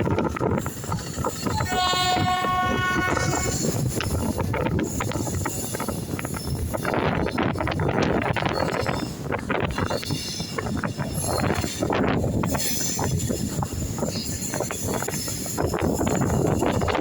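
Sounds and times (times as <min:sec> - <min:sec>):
train rumbling and clattering: 0:00.0 - 0:17.0
wind buffeting microphone: 0:00.0 - 0:17.0.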